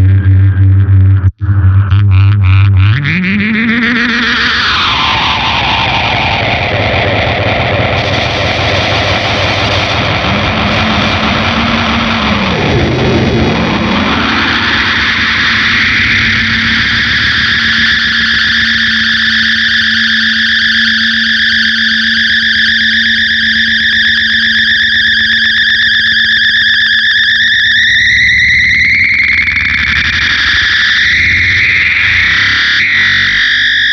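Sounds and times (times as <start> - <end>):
distorted electric guitar drone: 0.0 - 33.9.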